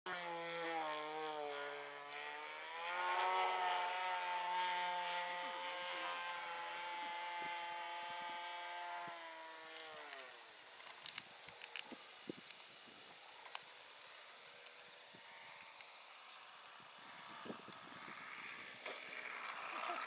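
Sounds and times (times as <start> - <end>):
model airplane engine droning: 0.1 - 20.0.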